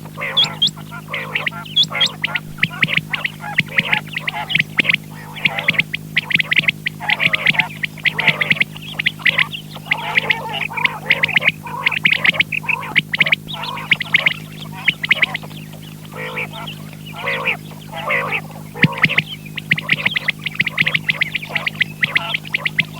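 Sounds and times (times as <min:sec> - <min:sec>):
quail calling: 0:00.0 - 0:22.9
steady electrical hum: 0:00.0 - 0:22.9.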